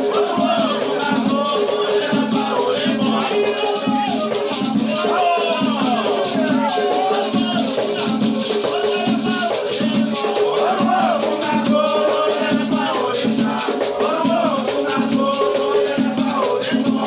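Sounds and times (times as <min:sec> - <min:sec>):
drum: 0:00.0 - 0:17.0
shaken rattles: 0:00.0 - 0:17.0
voices singing a chant: 0:00.0 - 0:17.0.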